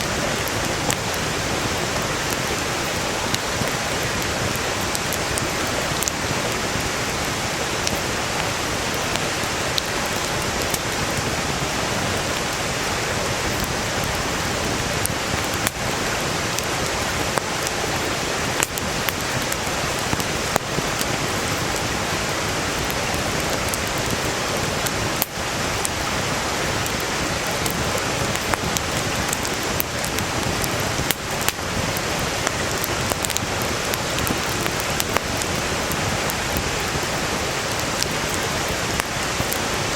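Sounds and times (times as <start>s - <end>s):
campfire crackling and popping: 0.0s - 39.9s
stream rushing: 0.0s - 39.9s.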